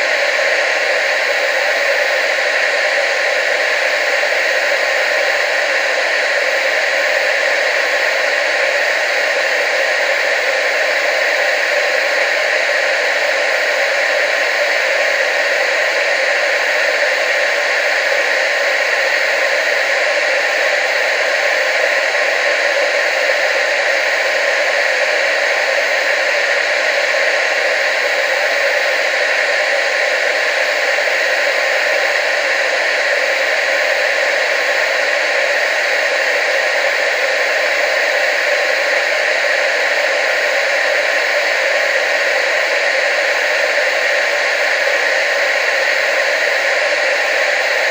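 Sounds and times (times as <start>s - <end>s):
television static hiss: 0.0s - 47.9s.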